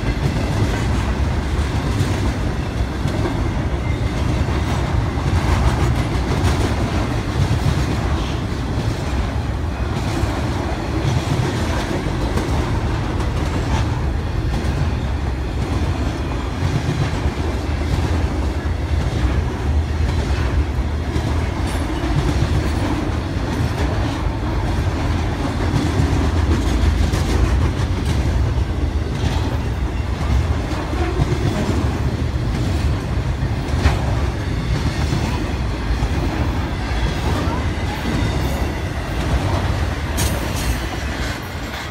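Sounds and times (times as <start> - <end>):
freight train rumbling past: 0.0 - 41.9.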